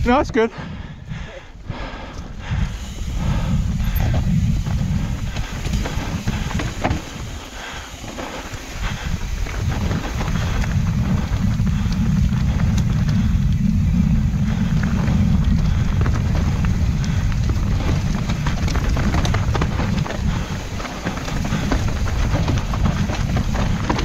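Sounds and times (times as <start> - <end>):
wind buffeting microphone: 0.0 - 24.0
bike clicks and rattles: 0.9 - 24.0
tyres rolling over dirt: 2.7 - 24.0.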